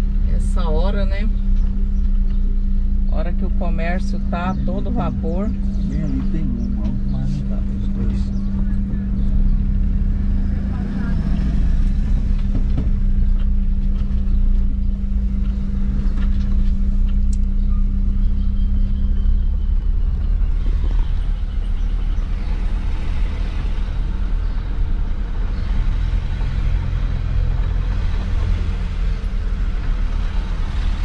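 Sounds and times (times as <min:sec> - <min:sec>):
road rumble: 0:00.0 - 0:31.0
steady low hum: 0:00.0 - 0:31.0
vehicle engine running: 0:00.0 - 0:31.0.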